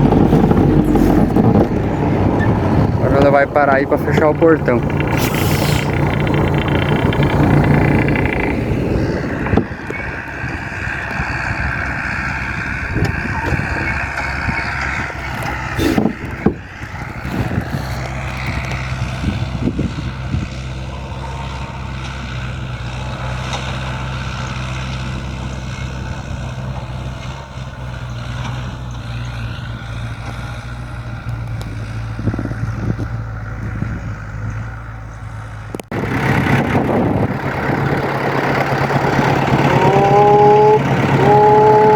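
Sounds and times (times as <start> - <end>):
diesel truck engine idling: 0.0 - 41.9.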